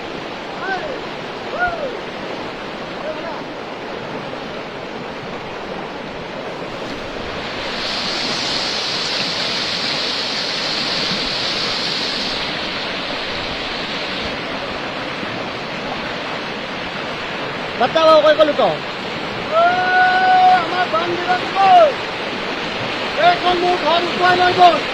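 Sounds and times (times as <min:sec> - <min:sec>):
floodwater rushing: 0:00.0 - 0:24.9.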